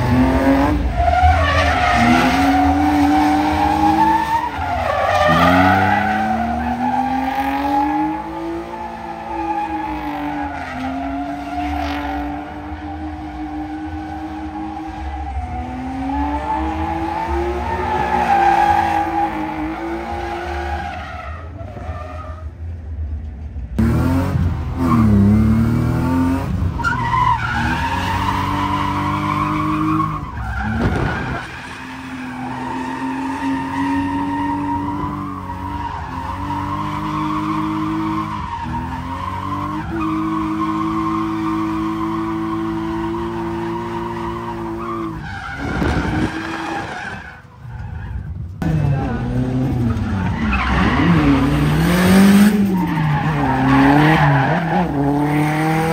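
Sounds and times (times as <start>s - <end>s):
car engines at high revs: 0.0s - 55.9s.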